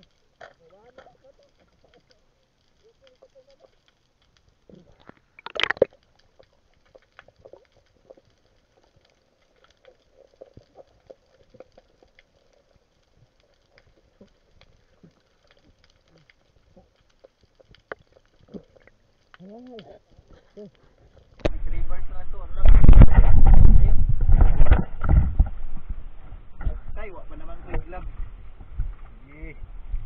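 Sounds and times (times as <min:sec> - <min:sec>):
underwater clicks and crackles: 0:00.0 - 0:30.0.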